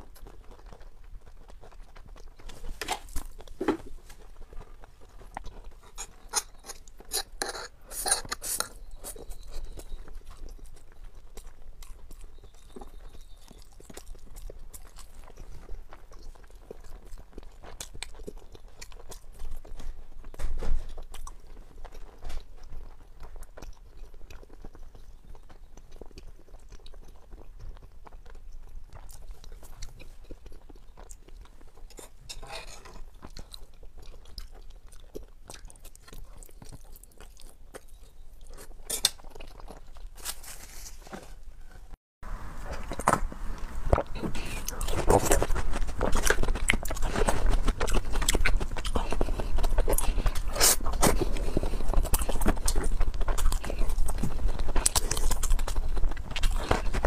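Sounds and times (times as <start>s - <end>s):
close chewing and crunching: 0.0s - 41.2s, 42.5s - 57.0s.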